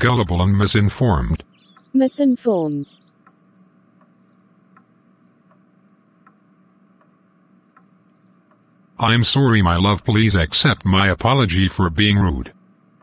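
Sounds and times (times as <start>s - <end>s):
faint ticking: 0.0s - 13.0s
low room hum: 0.0s - 13.0s.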